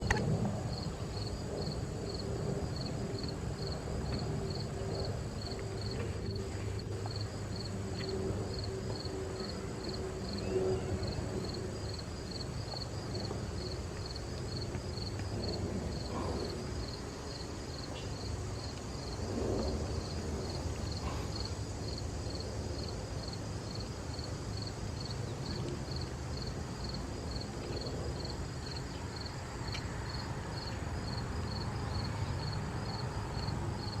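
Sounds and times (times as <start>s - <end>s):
continuous low rumble: 0.0s - 34.0s
cricket-like insect chirping: 0.0s - 34.0s.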